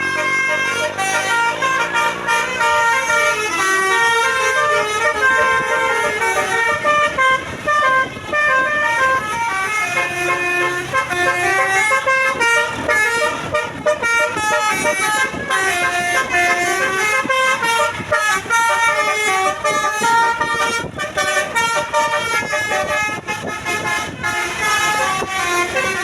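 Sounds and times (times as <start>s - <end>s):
musical bus horn tune: 0.0s - 26.0s.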